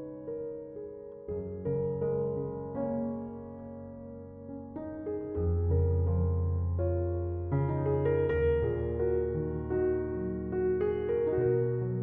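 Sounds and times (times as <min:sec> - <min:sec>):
soft piano notes: 0:00.0 - 0:12.0.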